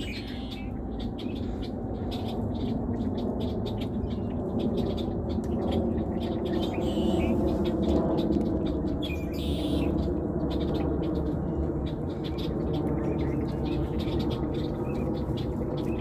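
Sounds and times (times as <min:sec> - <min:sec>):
birds chirping: 0:00.0 - 0:16.0
low background rumble: 0:00.0 - 0:16.0.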